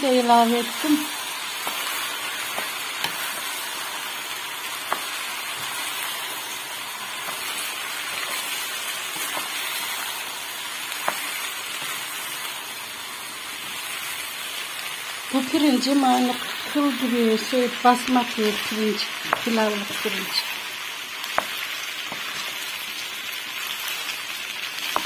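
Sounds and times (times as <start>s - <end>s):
rice sizzling in hot oil: 0.0s - 25.0s.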